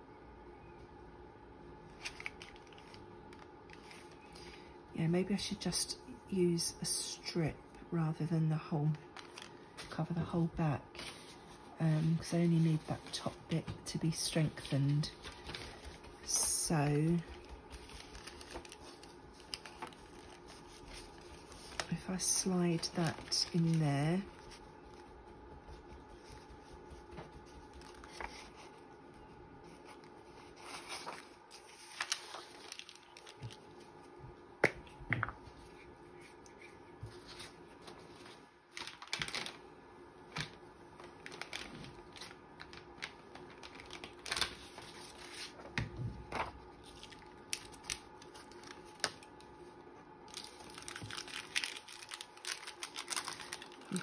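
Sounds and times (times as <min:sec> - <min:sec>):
paper rustling and crinkling: 0:01.9 - 0:04.7, 0:08.9 - 0:28.9, 0:29.6 - 0:34.1, 0:35.5 - 0:39.6, 0:40.3 - 0:49.6, 0:50.3 - 0:54.0.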